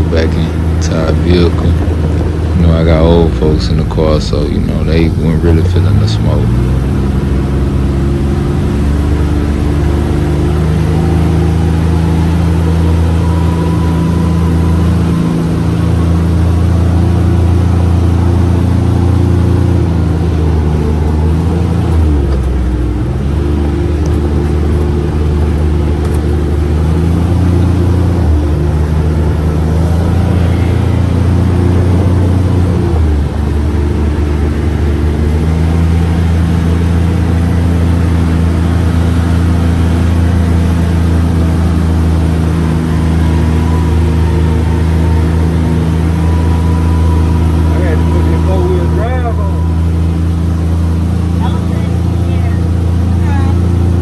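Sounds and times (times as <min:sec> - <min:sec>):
utility vehicle engine running: 0:00.0 - 0:54.0.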